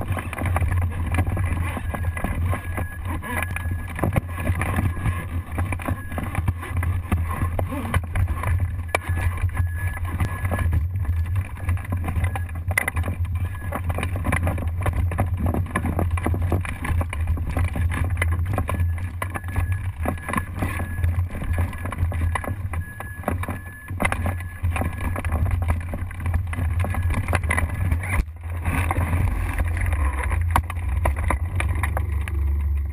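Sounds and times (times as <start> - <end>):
knocks and rattles of glider frame: 0.0 - 32.9.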